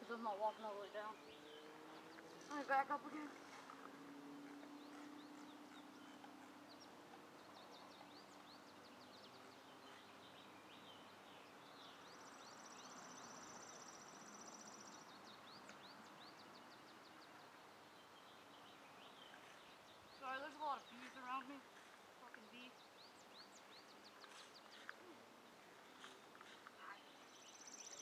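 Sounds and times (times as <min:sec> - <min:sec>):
faint bird chirps: 0:00.2 - 0:28.0.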